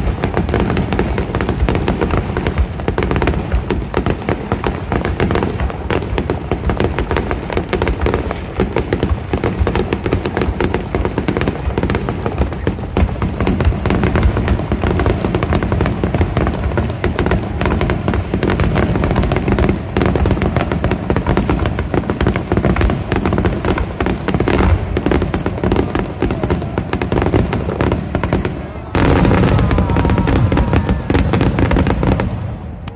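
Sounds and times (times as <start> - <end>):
fireworks bursting: 0.0 - 32.9.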